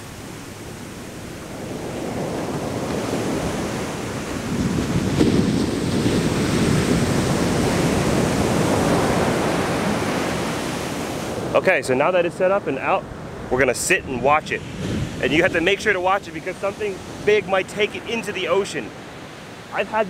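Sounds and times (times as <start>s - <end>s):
surf crashing on sand: 0.0s - 20.0s.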